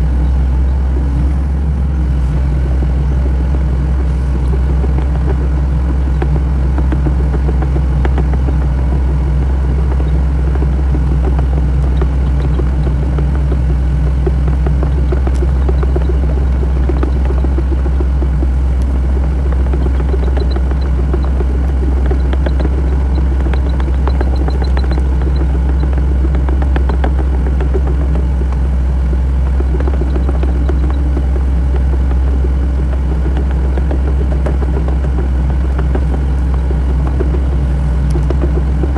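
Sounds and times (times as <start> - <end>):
excavator diesel engine running: 0.0 - 38.9
light clicks and clanks: 2.6 - 38.9.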